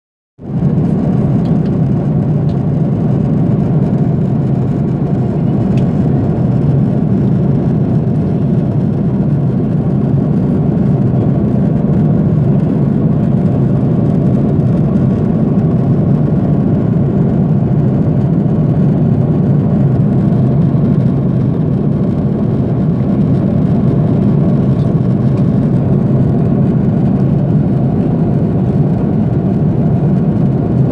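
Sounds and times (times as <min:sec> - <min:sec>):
airliner cabin drone: 0:00.4 - 0:30.9.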